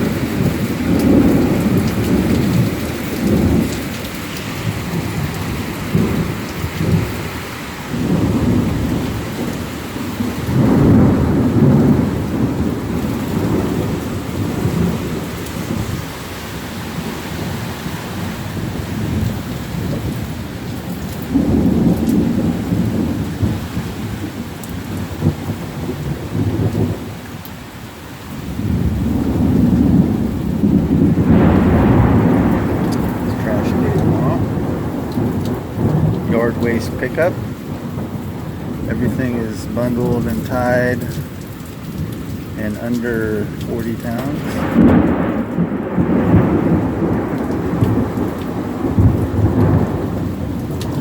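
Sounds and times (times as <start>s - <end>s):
low thunder rumble: 0.0s - 27.3s, 28.3s - 51.0s
steady rain: 0.0s - 51.0s.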